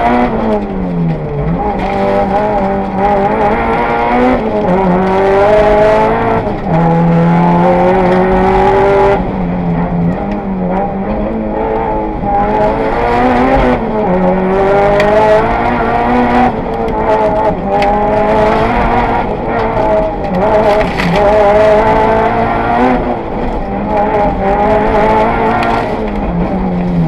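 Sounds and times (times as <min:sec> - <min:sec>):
turbocharged car engine revving: 0:00.0 - 0:27.0.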